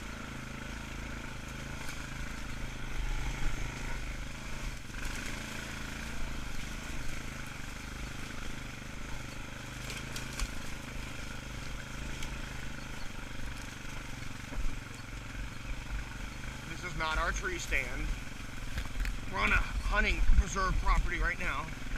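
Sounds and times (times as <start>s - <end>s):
atv engine running: 0.0s - 21.9s.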